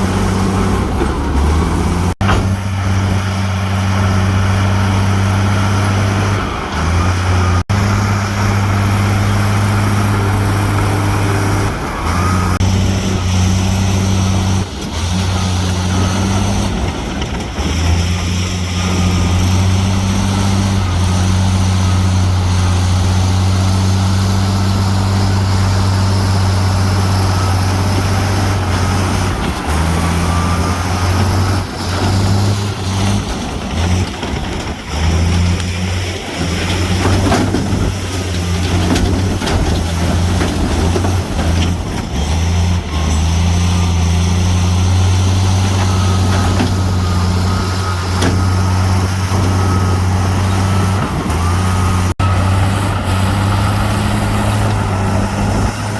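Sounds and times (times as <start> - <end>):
heavy diesel engine droning: 0.0 - 55.9.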